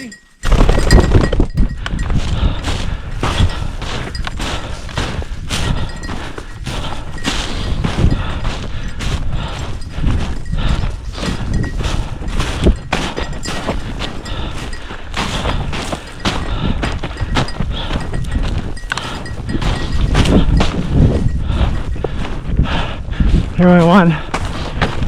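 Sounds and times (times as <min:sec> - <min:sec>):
footsteps crunching through snow: 0:02.2 - 0:22.5.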